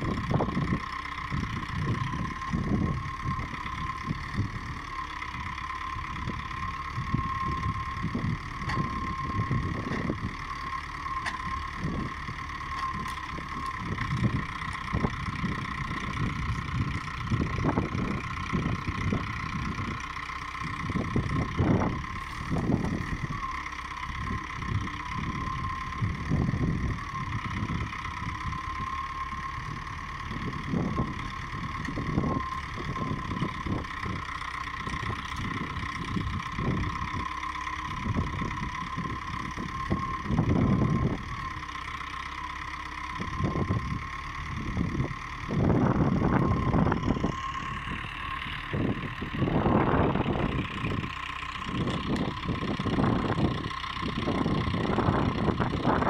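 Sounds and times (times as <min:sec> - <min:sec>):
wind buffeting microphone: 0:00.0 - 0:10.6, 0:11.7 - 0:23.4, 0:24.1 - 0:28.9, 0:29.6 - 0:37.3, 0:37.9 - 0:41.7, 0:43.1 - 0:56.0
diesel engine running: 0:00.0 - 0:56.0
hydraulic crane whine: 0:00.0 - 0:56.0.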